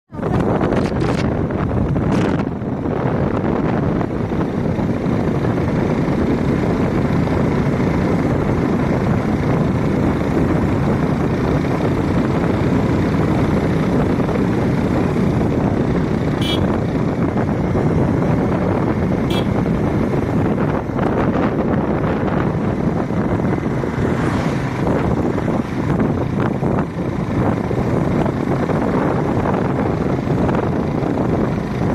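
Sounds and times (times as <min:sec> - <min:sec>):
motorcycle engine and wind rushing: 0:00.1 - 0:31.9.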